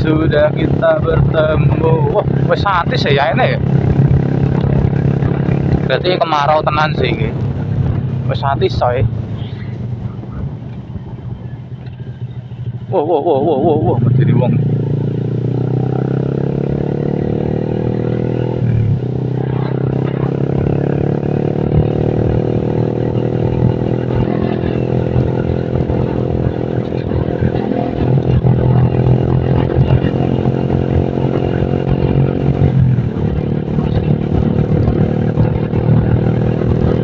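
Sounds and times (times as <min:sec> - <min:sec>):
motorcycle engine running: 0:00.0 - 0:37.0
wind rumble on microphone: 0:00.0 - 0:37.0.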